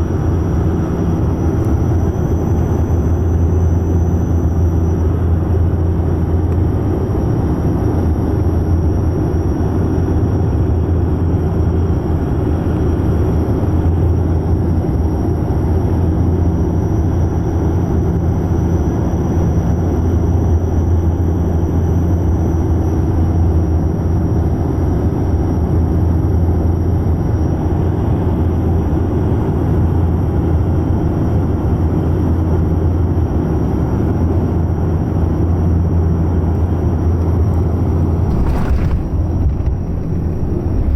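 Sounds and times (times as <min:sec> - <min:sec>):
aircraft engine drone: 0:00.0 - 0:40.9.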